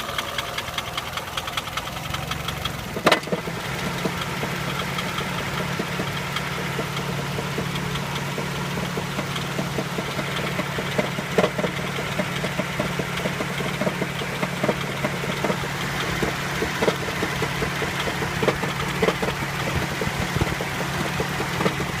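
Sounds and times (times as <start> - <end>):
car engine idling: 0.0 - 22.0
engine knocking: 0.0 - 22.0.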